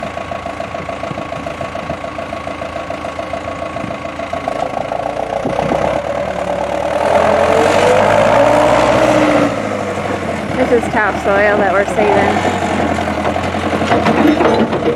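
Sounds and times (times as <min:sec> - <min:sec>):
heavy machinery engine pulsing: 0:00.0 - 0:14.9.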